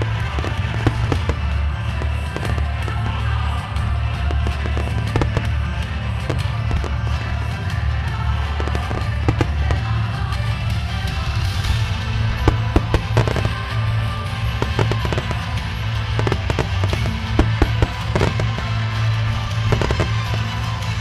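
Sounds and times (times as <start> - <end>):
fireworks bursting with sharp bangs: 0.0 - 21.0
music playing: 0.0 - 21.0.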